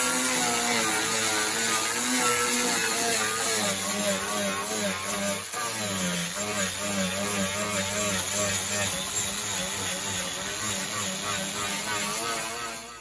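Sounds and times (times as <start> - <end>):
power grinder grinding putty: 0.0 - 13.0.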